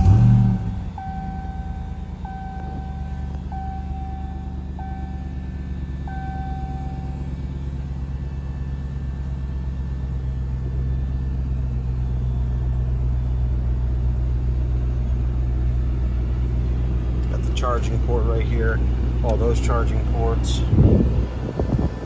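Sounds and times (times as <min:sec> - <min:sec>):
engine idling low rumble: 0:00.0 - 0:22.0.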